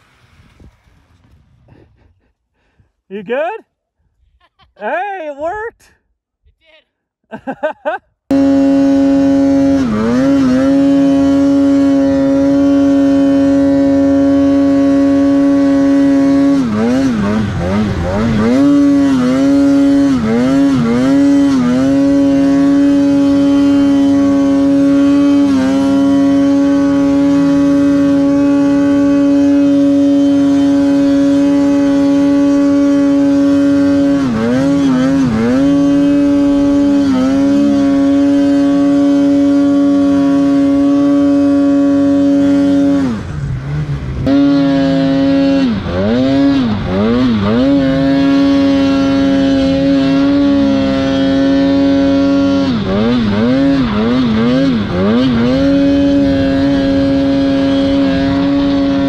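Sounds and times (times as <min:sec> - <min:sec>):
snowmobile engine revving: 0:00.0 - 0:03.6, 0:07.4 - 0:59.0.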